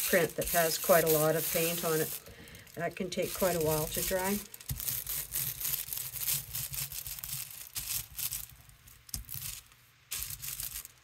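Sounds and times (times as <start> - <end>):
brayer rolling over tissue paper: 0.0 - 11.0
tissue paper crackling: 0.0 - 11.0.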